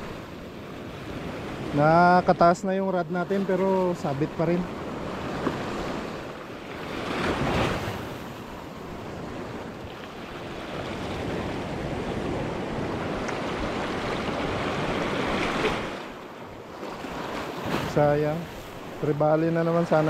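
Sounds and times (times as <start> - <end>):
surf washing over rocks: 0.0 - 20.0.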